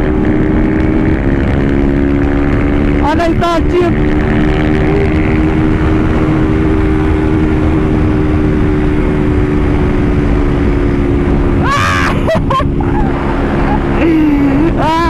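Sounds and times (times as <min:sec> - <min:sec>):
motorcycle engine at high revs: 0:00.0 - 0:15.0
wind rushing over microphone: 0:00.0 - 0:15.0.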